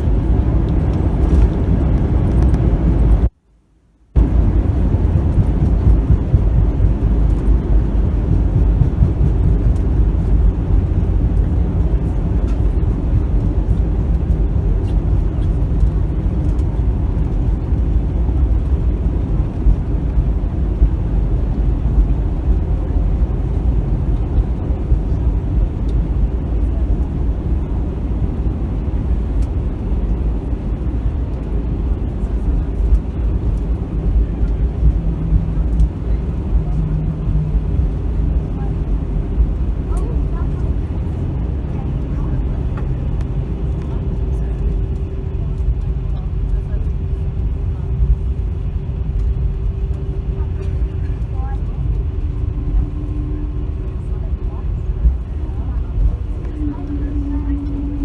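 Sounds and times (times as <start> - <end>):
airplane cabin rumble: 0.0 - 3.4, 4.1 - 58.0.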